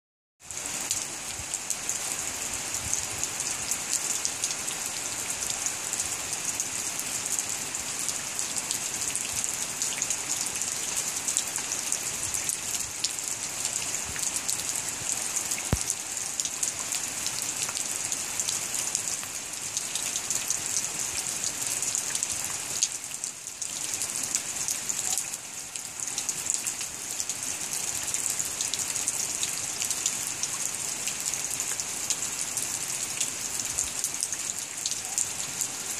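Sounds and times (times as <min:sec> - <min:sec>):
rain pattering on wet soil: 0:00.4 - 0:35.9.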